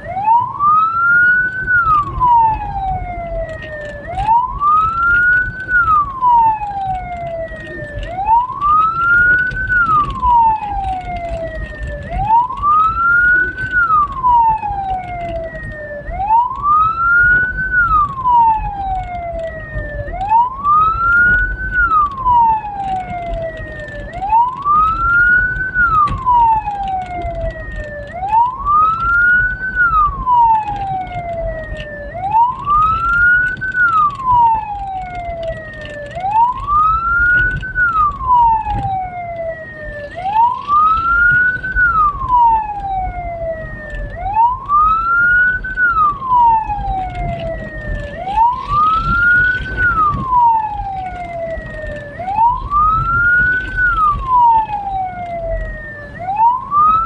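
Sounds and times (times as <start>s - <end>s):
siren wailing: 0.0s - 57.0s
vehicle driving rumble: 0.0s - 57.0s.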